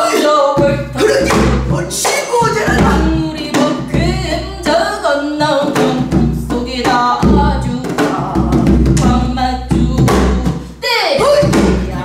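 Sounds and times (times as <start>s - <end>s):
woman singing: 0.0s - 1.7s, 2.7s - 12.0s.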